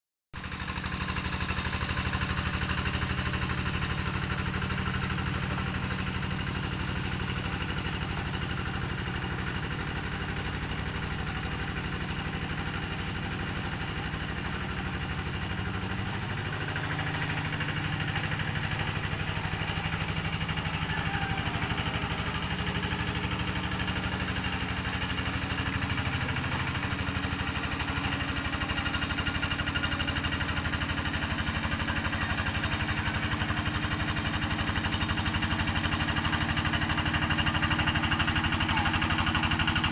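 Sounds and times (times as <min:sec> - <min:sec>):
tractor engine running: 0:00.4 - 0:39.9.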